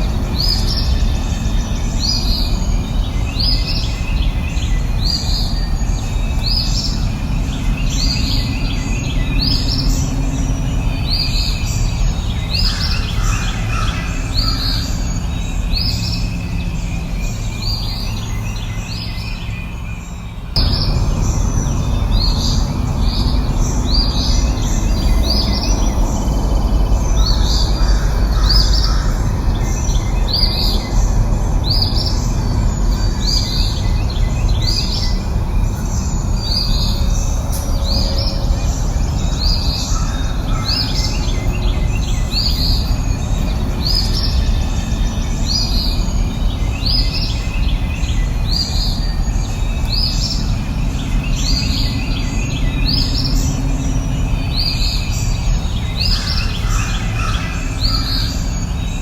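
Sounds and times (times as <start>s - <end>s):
low rushing background: 0.0s - 59.0s.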